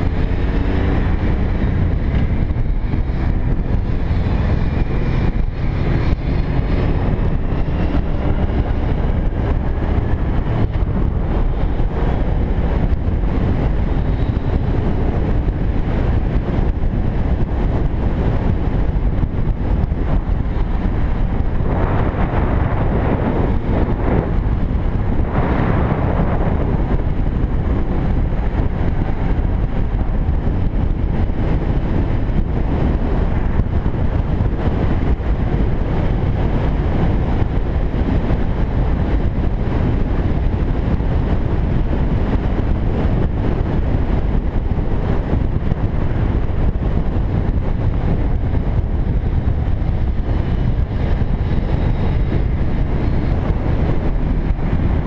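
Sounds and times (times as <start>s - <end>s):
motorcycle engine running: 0.0s - 55.0s
wind noise on microphone: 0.0s - 55.0s.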